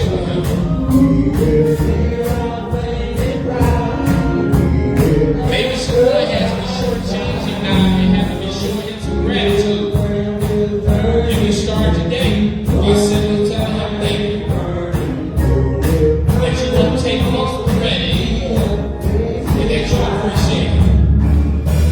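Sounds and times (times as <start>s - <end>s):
gospel singing over a beat: 0.0s - 21.9s.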